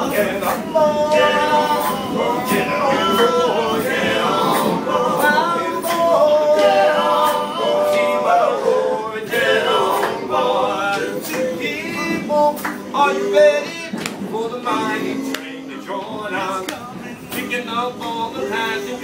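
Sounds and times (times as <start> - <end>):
men singing gospel a cappella: 0.0 - 19.0.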